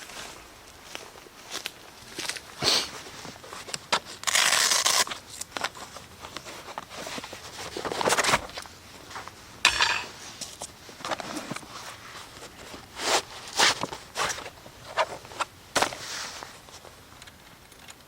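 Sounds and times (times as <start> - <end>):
camp gear rustling and scraping: 0.0 - 17.7.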